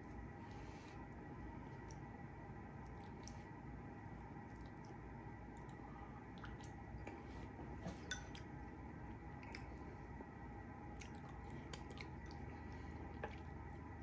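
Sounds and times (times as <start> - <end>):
soft chewing: 0.0 - 14.0
steady low hum: 0.0 - 14.0.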